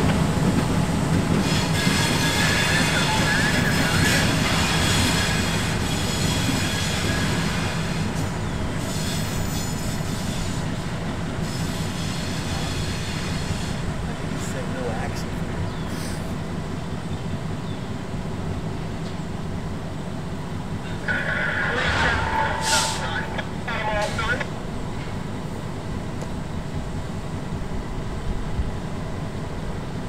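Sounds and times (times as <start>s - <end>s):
freight train rumbling: 0.0s - 30.0s.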